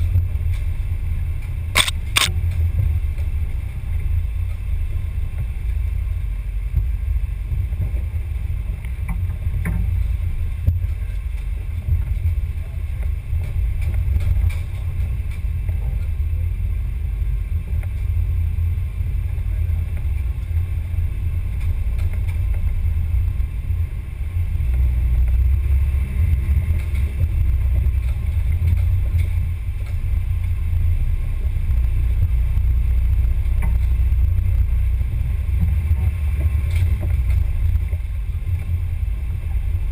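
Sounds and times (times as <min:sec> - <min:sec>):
rc car rumble on dirt: 0:00.0 - 0:39.9.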